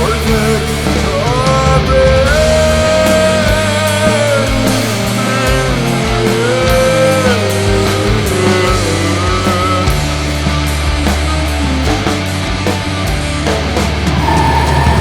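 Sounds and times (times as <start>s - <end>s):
gliding lead melody: 0.0s - 15.0s
rock band playing: 0.0s - 15.0s.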